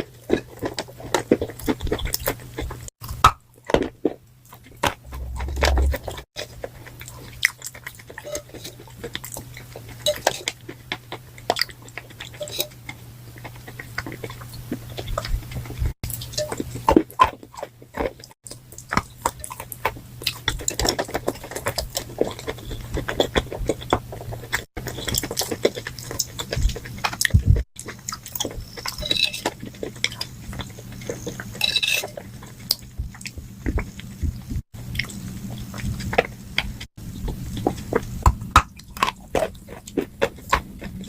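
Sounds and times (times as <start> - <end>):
low steady hum: 0.1 - 41.0.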